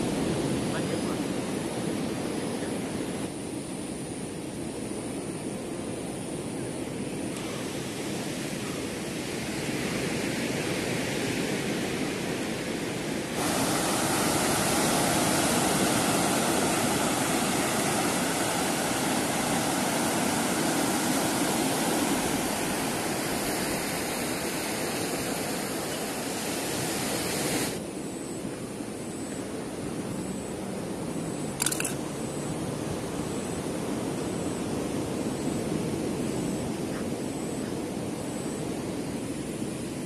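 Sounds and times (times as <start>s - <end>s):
sea surf: 0.0s - 3.4s, 4.0s - 40.0s
wind: 0.0s - 40.0s.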